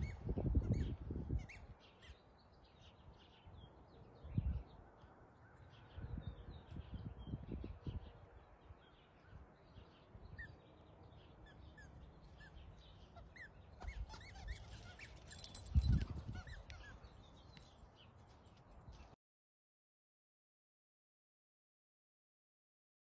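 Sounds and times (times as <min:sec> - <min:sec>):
birds chirping: 0:00.0 - 0:19.2.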